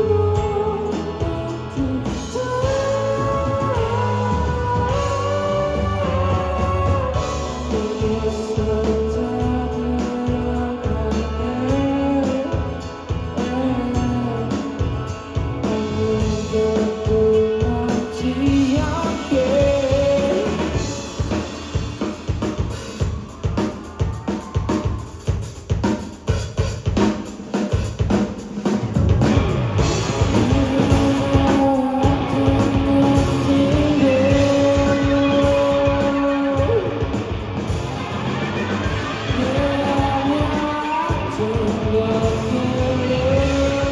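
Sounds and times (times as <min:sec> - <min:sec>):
busy drumming: 0:00.0 - 0:43.9
live rock band playing: 0:00.0 - 0:43.9.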